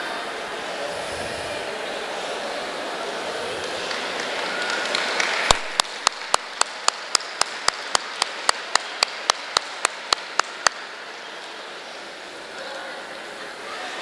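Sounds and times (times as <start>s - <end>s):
wash of noise: 0.0s - 14.0s.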